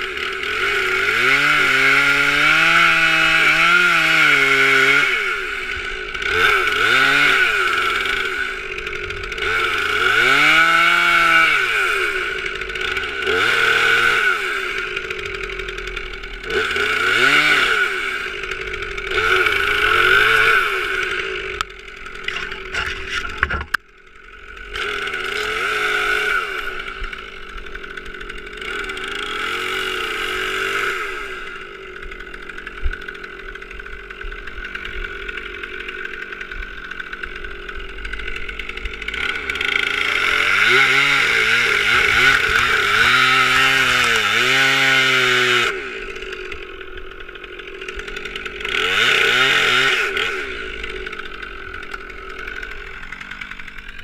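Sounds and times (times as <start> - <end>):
chainsaw cutting: 0.0 - 54.0.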